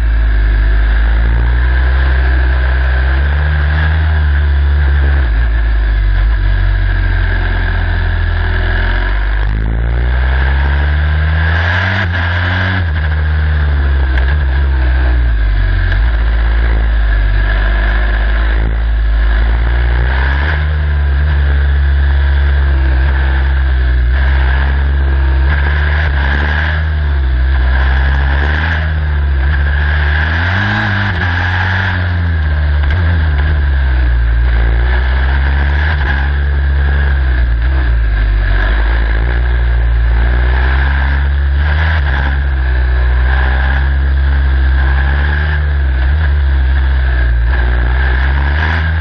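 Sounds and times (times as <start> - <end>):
race car engine revving: 0.0 - 49.0
rushing noise: 0.0 - 49.0.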